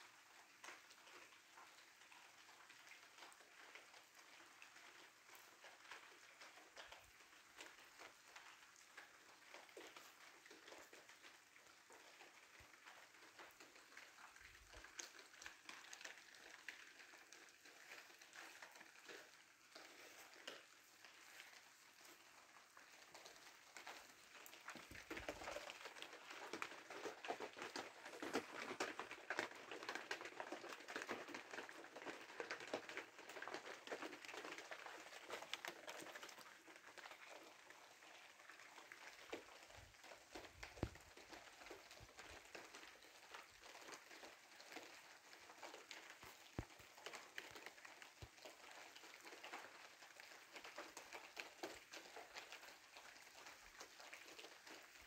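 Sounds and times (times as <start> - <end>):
rain patter: 0.0 - 55.0.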